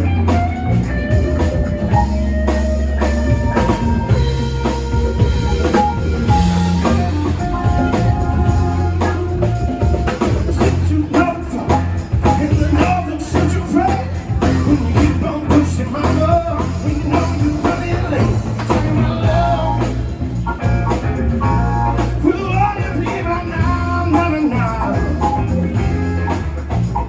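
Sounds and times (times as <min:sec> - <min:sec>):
bass notes: 0:00.0 - 0:27.0
drum kit beat: 0:00.0 - 0:27.0
melodic lead lines: 0:00.0 - 0:27.0.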